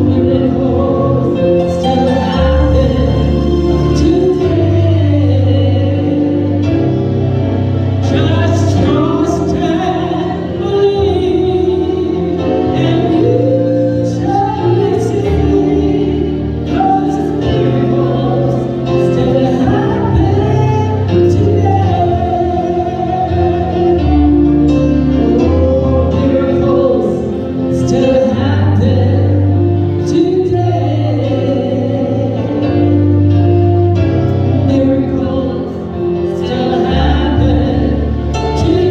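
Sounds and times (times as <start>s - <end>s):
band with steady bass line: 0.0s - 38.9s
held instrumental chords: 0.0s - 38.9s
slow gospel singing: 0.0s - 38.9s.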